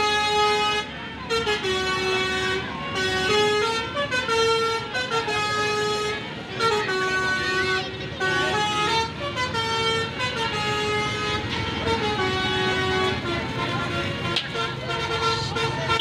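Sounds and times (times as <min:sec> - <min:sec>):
bus horn playing a tune: 0:00.0 - 0:16.0.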